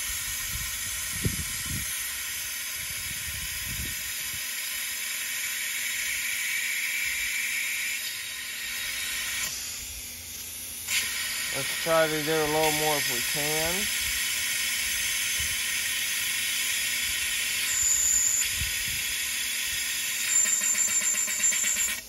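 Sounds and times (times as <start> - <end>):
compressed air hissing: 0.0 - 20.4.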